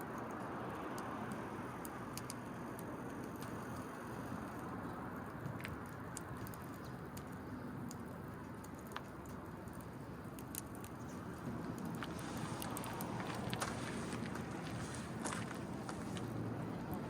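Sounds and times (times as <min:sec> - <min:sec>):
low background noise: 0:00.0 - 0:17.0
wood fire crackling: 0:00.1 - 0:17.0.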